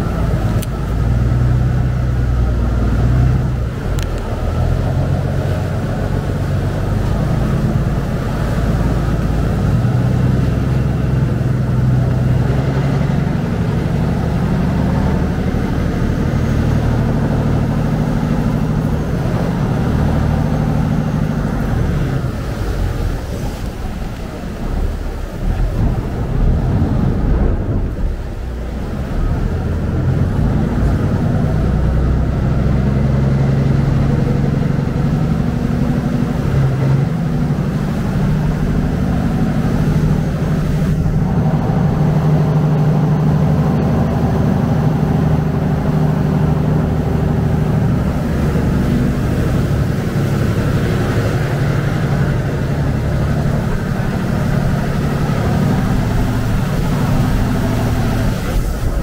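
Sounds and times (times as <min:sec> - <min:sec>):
boat diesel engine running: 0:00.0 - 0:59.0
wake churning along hull: 0:00.0 - 0:59.0.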